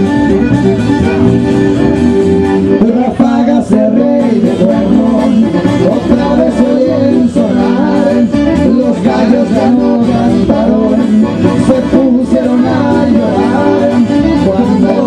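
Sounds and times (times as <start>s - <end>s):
accordion: 0.0s - 15.0s
acoustic guitar: 0.0s - 15.0s
electric bass: 0.0s - 15.0s
man singing: 2.7s - 15.0s.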